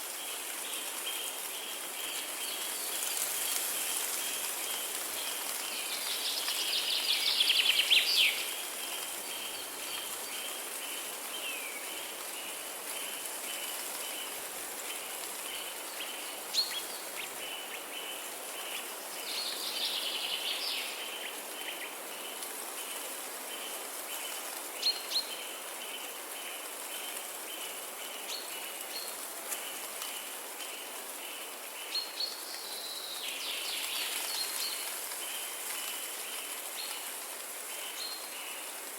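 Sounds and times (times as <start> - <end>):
hiss of rain or water: 0.0 - 38.9.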